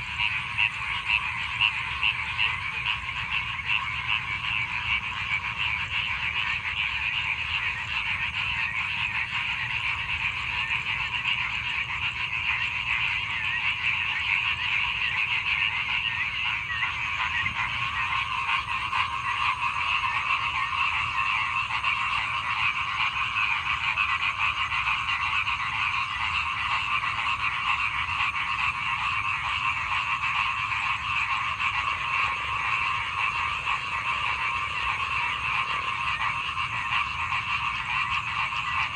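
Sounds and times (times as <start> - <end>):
frogs calling in chorus: 0.0 - 38.9.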